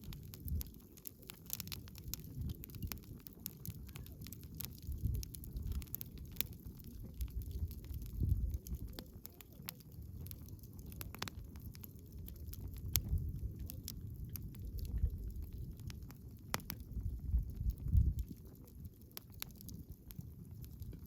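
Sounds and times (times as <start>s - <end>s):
sharp pops and snaps: 0.0s - 18.4s
low uneven rumble: 0.0s - 21.0s
wood bonfire crackling: 0.0s - 21.0s.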